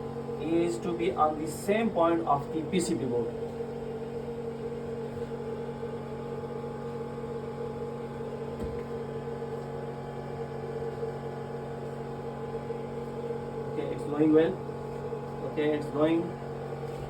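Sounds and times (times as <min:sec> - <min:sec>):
electrical hum with fixed tones: 0:00.0 - 0:17.0.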